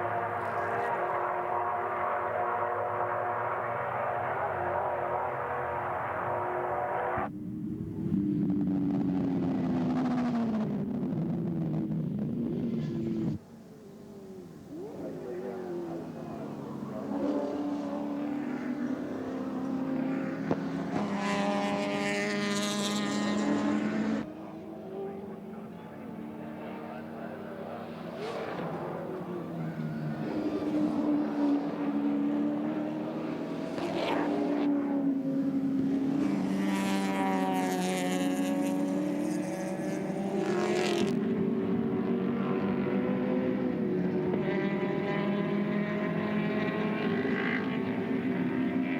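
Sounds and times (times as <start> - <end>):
racing car engine accelerating: 0.0 - 13.4, 14.2 - 48.9.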